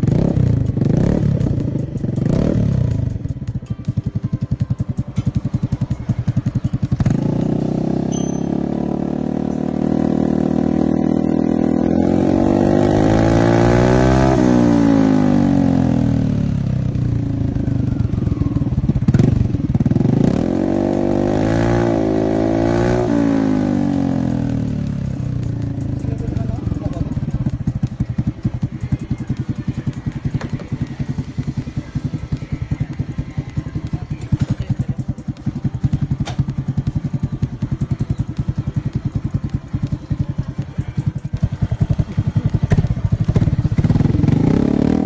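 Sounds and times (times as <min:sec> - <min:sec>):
scooter engine revving: 0:00.0 - 0:45.0.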